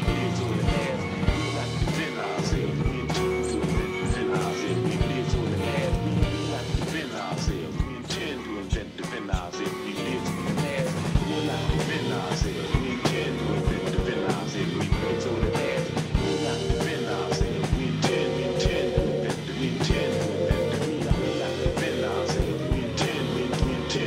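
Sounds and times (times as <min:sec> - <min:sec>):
drum kit beat: 0:00.0 - 0:24.0
live band playing: 0:00.0 - 0:24.0.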